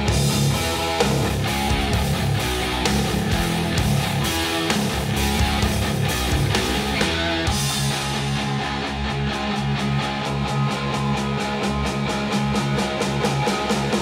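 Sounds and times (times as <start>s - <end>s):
rock instrumental music: 0.0s - 14.0s.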